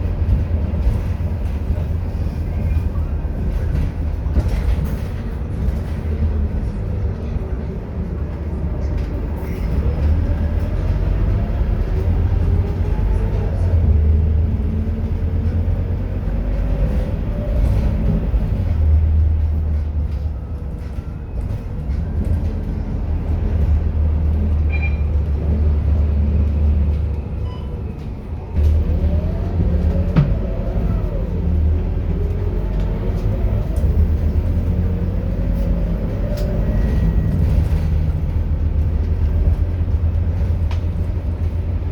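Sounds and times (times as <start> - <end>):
bus diesel engine labouring: 0.0 - 41.9.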